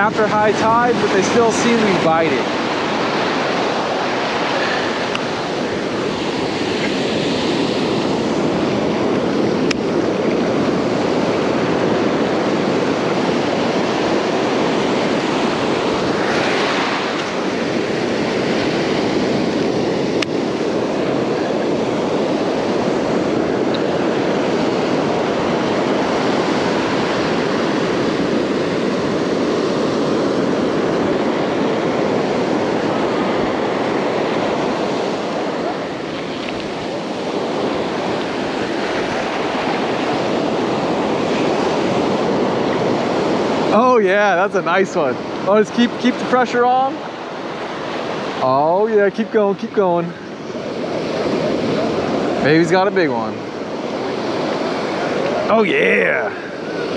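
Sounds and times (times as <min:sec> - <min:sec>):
ocean surf breaking: 0:00.0 - 0:56.9.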